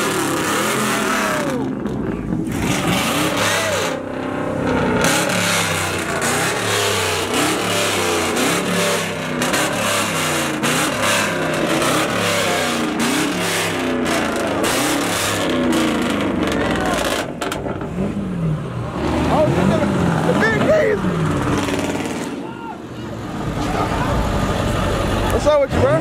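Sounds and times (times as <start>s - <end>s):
pickup engine revving: 0.0s - 26.0s.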